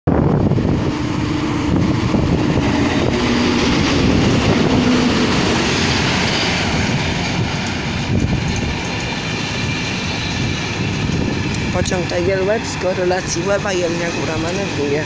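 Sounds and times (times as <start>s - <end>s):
train wheels rumbling on rail: 0.1s - 15.0s.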